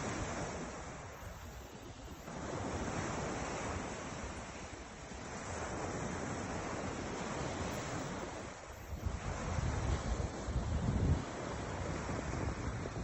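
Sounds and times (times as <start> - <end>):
ocean surf washing in: 0.0 - 13.0
wind gusting on microphone: 0.0 - 13.0.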